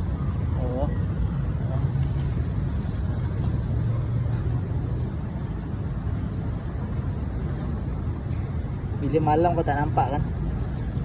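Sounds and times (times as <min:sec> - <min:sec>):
constant low hum: 0:00.0 - 0:11.0
motor vehicle rumble: 0:00.0 - 0:11.0.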